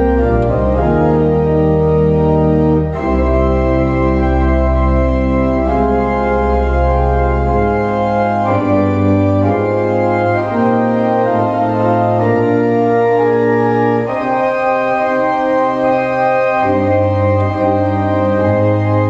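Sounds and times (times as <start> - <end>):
organ playing a hymn: 0.0 - 19.0.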